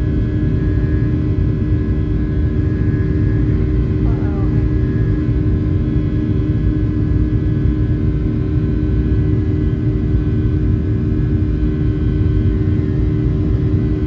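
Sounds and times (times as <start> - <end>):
jet engine roar in cabin: 0.0 - 14.0.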